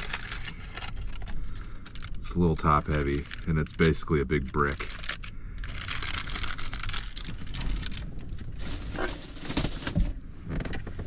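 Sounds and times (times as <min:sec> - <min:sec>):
plastic packet crinkling: 0:00.0 - 0:10.1.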